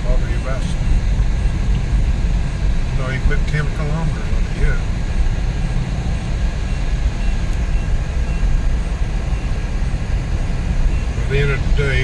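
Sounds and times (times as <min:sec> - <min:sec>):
road and tyre noise: 0:00.0 - 0:12.0
van engine droning: 0:00.0 - 0:12.0.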